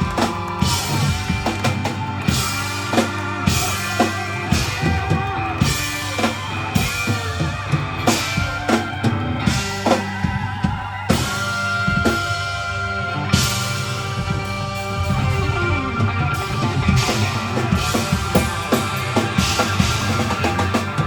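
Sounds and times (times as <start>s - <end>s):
drum kit steady beat: 0.0s - 21.0s
live country band playing: 0.0s - 21.0s.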